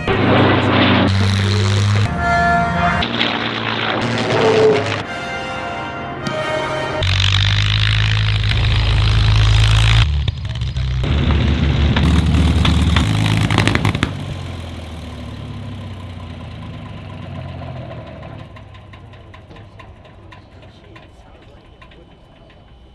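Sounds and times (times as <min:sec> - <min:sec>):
aircraft passing overhead: 0:00.0 - 0:22.9
propeller plane engine idling: 0:00.0 - 0:22.9.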